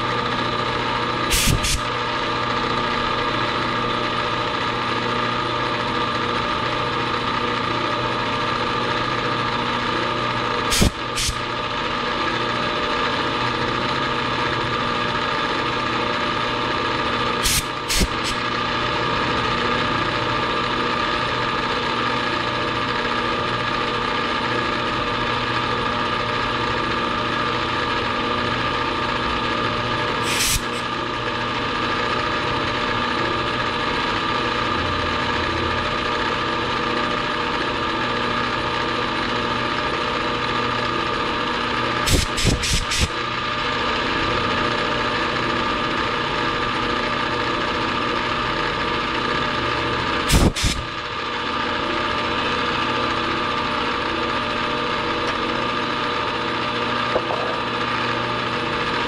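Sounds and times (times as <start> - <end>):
milling machine cutting metal: 0.0 - 8.2, 9.4 - 15.0, 15.6 - 24.4, 28.9 - 59.0.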